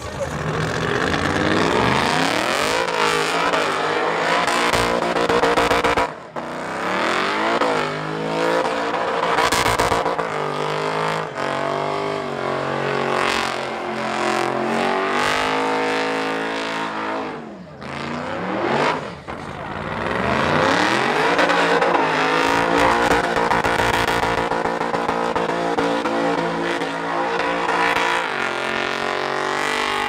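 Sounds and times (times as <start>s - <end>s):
race car engine revving hard: 0.0s - 30.0s.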